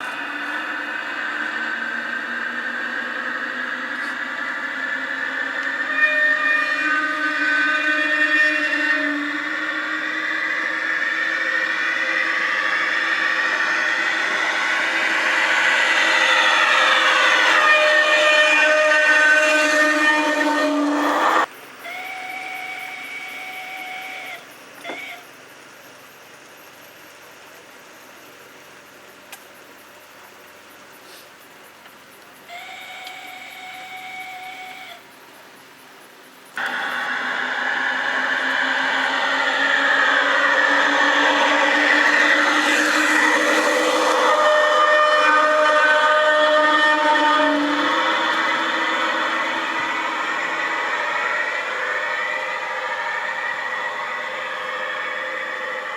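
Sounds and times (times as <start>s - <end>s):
steam whistle blowing: 0.0s - 25.3s, 32.5s - 35.2s, 36.6s - 55.9s
model train whirring on track: 0.0s - 55.9s.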